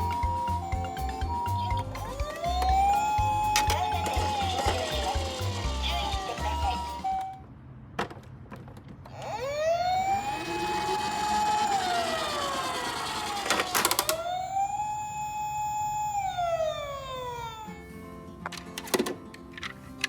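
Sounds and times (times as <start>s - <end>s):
toy electronic siren wailing: 0.0s - 7.4s, 9.1s - 17.8s.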